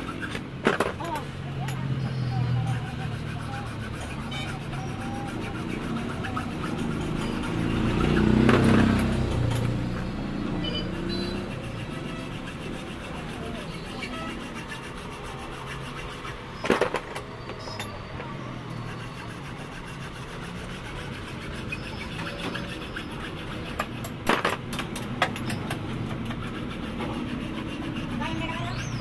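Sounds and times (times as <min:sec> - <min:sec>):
hacksaw rasping through steel: 0:00.0 - 0:29.0.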